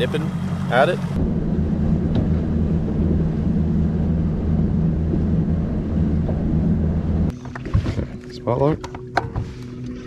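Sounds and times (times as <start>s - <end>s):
outboard motor droning: 0.0s - 10.0s.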